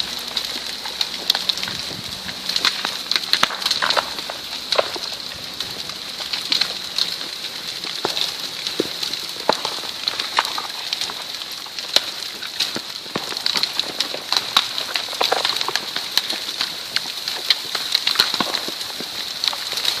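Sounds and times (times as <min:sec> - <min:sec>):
landslide hiss: 0:00.0 - 0:20.0
soil and rock cracking and tumbling: 0:00.0 - 0:20.0.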